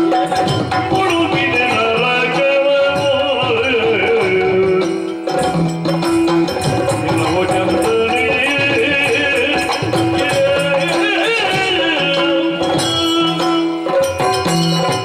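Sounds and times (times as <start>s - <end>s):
drum strokes: 0.0s - 15.0s
jingling percussion: 0.0s - 15.0s.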